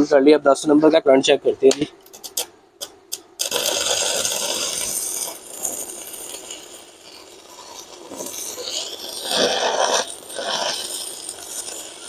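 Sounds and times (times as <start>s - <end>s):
welding arc crackling: 1.7s - 12.0s.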